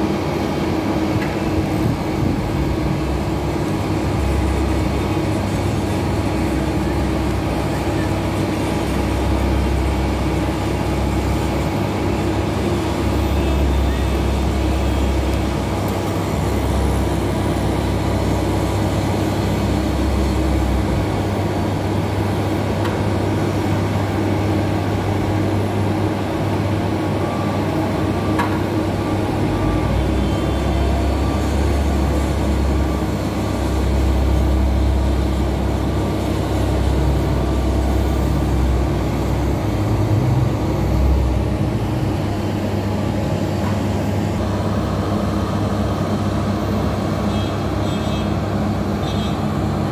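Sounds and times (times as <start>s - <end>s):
heavy vehicle engine: 0.0s - 49.9s
road rumble: 0.0s - 49.9s.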